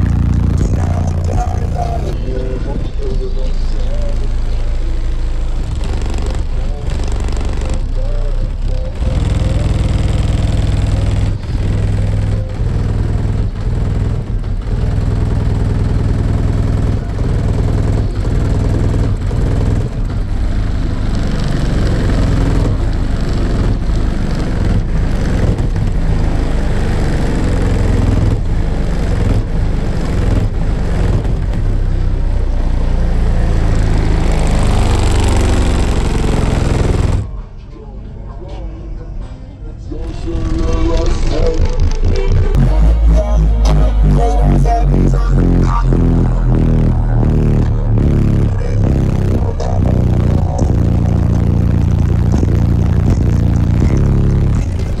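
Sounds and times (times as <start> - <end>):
bass-heavy music through subwoofers: 0.0 - 55.0.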